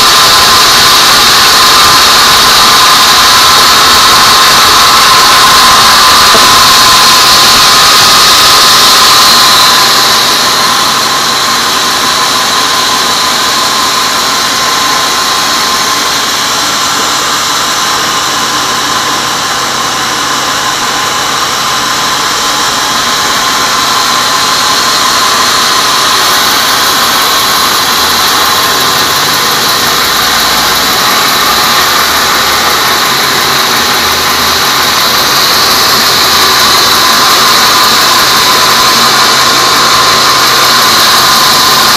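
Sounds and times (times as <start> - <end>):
band saw blade cutting wood: 0.0 - 41.9.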